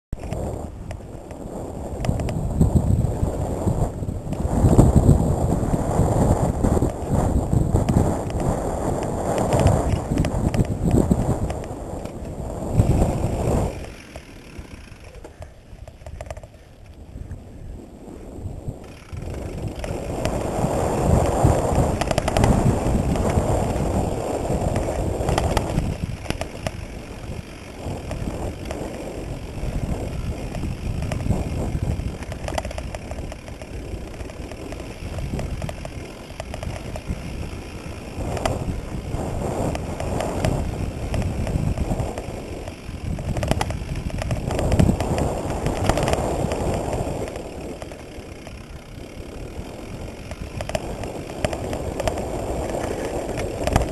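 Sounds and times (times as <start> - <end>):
bike rattling over bumps: 0.1 - 53.9
bike tyres on dirt: 0.1 - 53.9
wind rush on microphone: 0.1 - 53.9.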